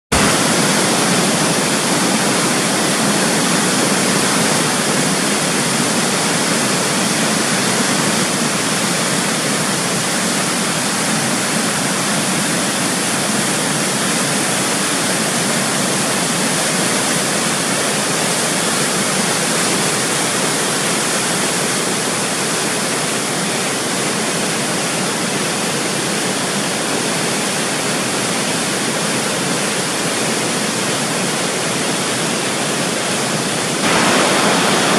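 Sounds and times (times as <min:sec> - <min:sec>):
waterfall rushing over boulders: 0:00.1 - 0:34.9.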